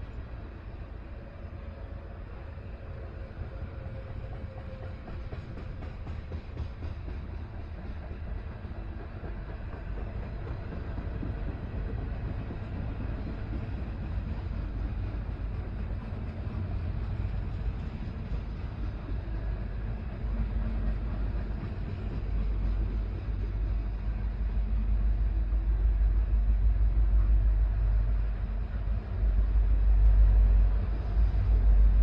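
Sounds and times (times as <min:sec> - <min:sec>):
train wheels rumbling on rail: 0:00.0 - 0:32.0
clickety-clack of wheels: 0:02.5 - 0:32.0.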